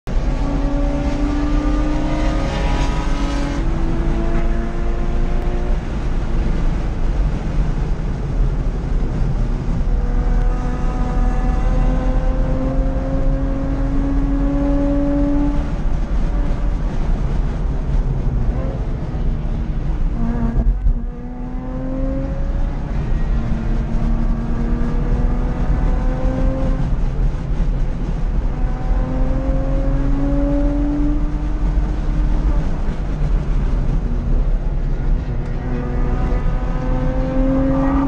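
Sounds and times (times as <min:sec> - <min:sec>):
car engine at speed: 0:00.0 - 0:38.0
road and wind rumble: 0:00.0 - 0:38.0.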